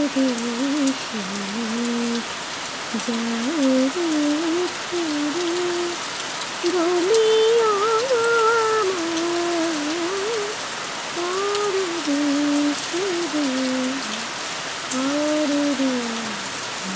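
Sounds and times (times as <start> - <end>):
heavy rain on water: 0.0 - 16.9
woman singing slow melody: 0.0 - 16.9.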